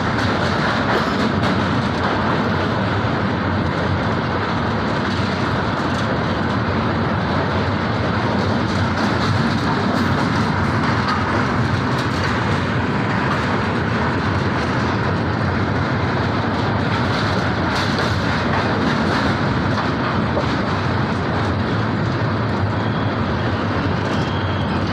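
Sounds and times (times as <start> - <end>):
train wheels on rails: 0.0 - 24.9.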